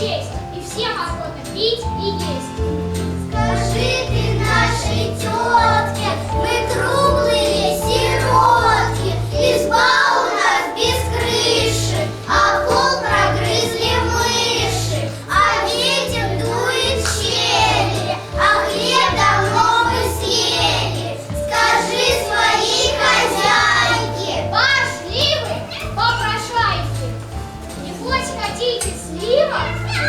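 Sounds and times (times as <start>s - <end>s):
instrumental backing track: 0.0s - 30.0s
children singing: 1.9s - 27.2s.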